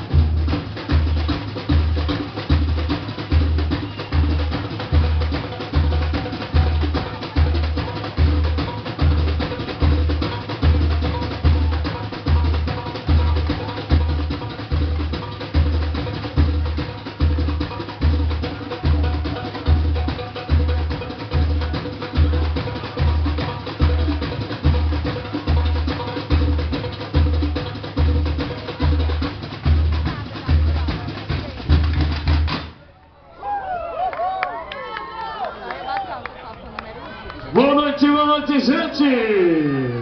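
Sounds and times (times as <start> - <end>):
snare drums and percussion: 0.0 - 32.8, 37.5 - 40.0
surdo bass drums pounding: 0.0 - 32.8.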